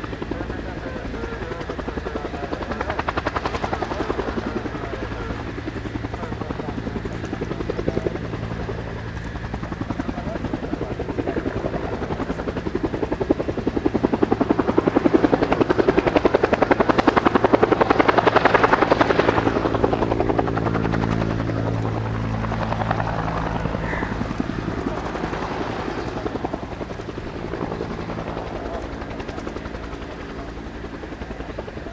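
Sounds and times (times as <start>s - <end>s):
helicopter rotor beat: 0.0s - 31.9s
turbine hum: 0.0s - 31.9s.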